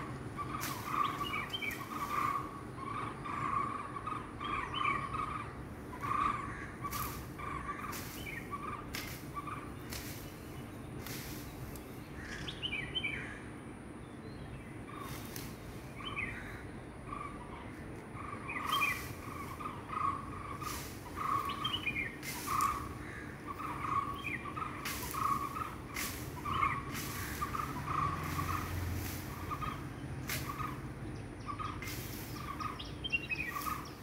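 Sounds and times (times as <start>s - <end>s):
birds calling: 0.0s - 34.0s.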